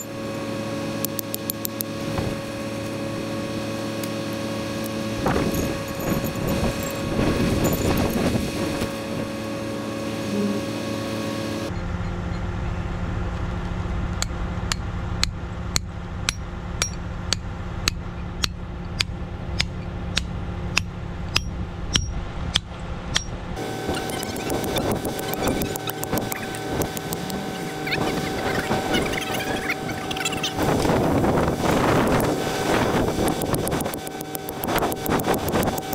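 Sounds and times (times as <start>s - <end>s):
steady hum: 0.0s - 35.9s.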